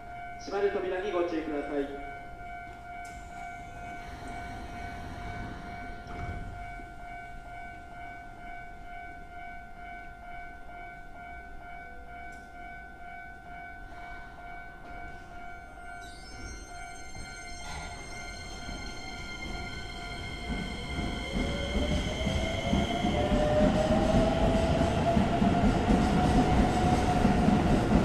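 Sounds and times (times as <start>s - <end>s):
electric train whine: 0.0s - 28.0s.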